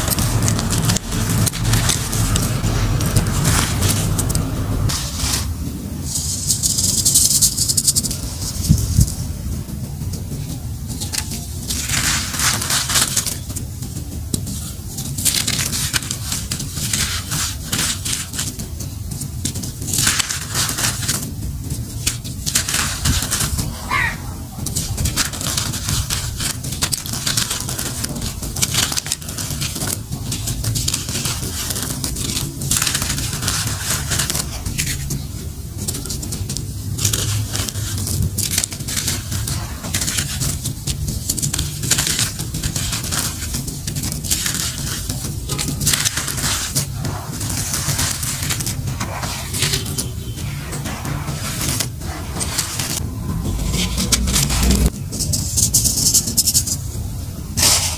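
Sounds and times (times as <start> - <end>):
gritty crunching and crackling: 0.0 - 10.3, 11.1 - 56.7
grains pattering onto pile: 0.0 - 55.0.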